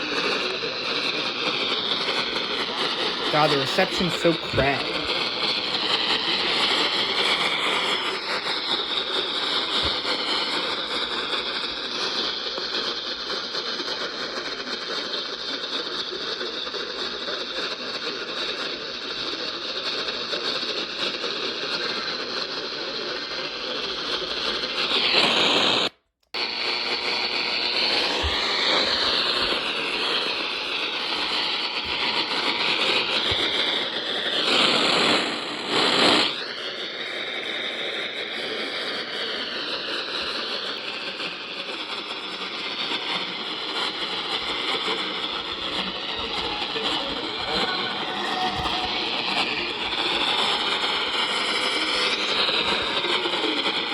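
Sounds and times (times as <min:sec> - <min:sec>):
radio static hiss: 0:00.0 - 0:36.6, 0:38.5 - 0:53.9
wavering radio whistles: 0:00.0 - 0:53.9.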